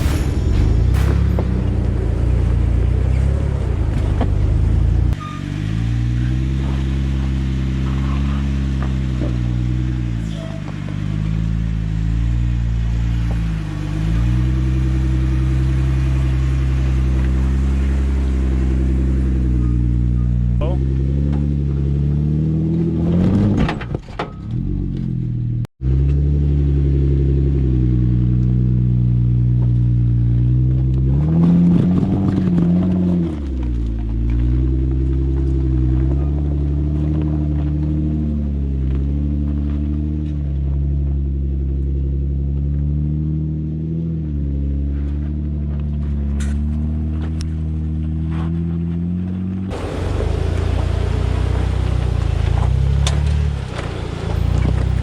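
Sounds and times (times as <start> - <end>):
off-road engine droning: 0.0 - 55.0.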